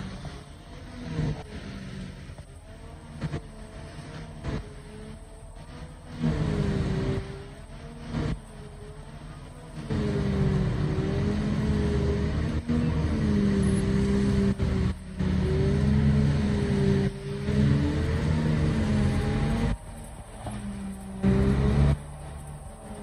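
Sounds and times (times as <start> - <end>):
loud engine drone: 0.0 - 23.0.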